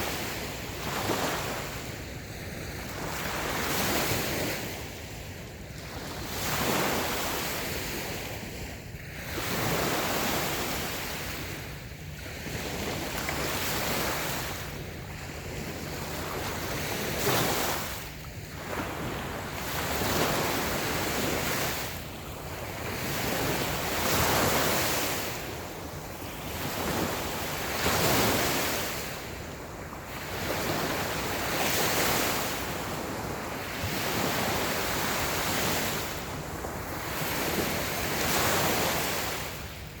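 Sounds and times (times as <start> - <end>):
waves washing up a sandy beach: 0.0 - 40.0.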